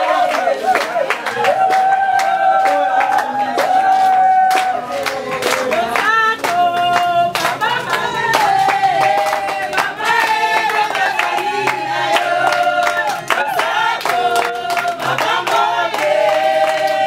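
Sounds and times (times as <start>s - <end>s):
group singing in chorus: 0.0s - 17.0s
hand clapping beat: 0.0s - 17.0s.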